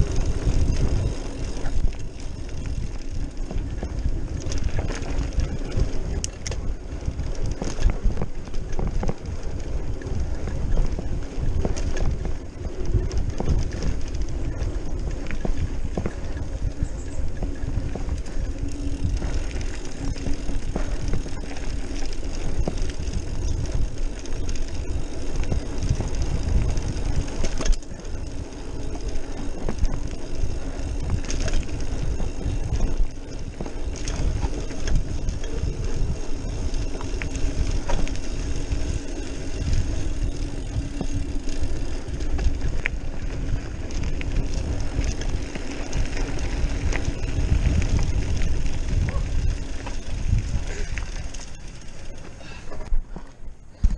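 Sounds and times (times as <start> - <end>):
tyres rumbling on dirt: 0.0 - 53.4
bike rattling over bumps: 0.0 - 53.9
wind over microphone: 0.0 - 53.9.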